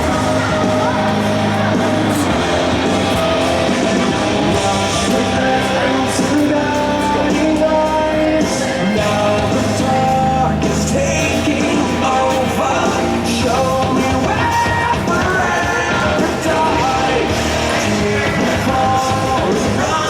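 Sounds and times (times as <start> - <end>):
rock music with singing: 0.0 - 20.0.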